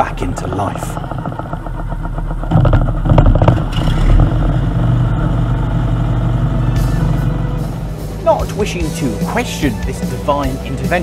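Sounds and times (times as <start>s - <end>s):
lorry engine running: 0.0s - 11.0s.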